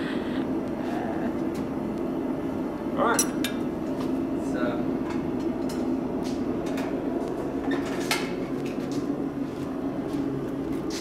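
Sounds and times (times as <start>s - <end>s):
low workshop drone: 0.0s - 11.0s.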